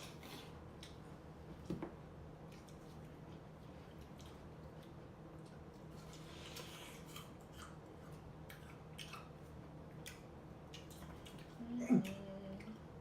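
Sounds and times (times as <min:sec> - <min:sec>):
person chewing juicy fruit: 0:02.4 - 0:12.8.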